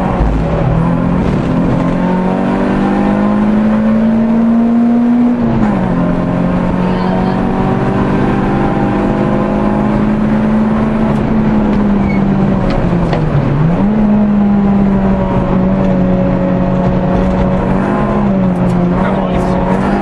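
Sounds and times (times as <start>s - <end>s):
car engine at high revs: 0.0s - 20.0s
road and wind noise: 0.0s - 20.0s.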